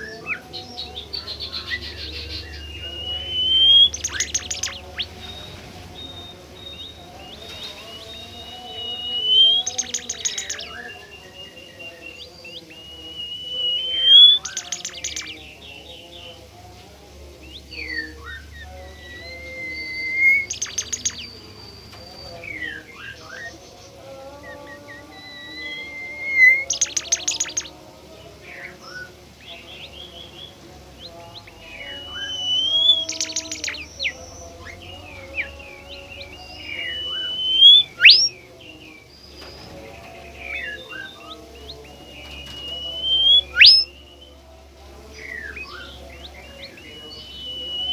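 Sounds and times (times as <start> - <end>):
songbird whistling: 1.1 - 15.4, 17.5 - 23.5, 24.4 - 27.8, 31.4 - 39.7, 40.3 - 44.3, 45.2 - 47.9.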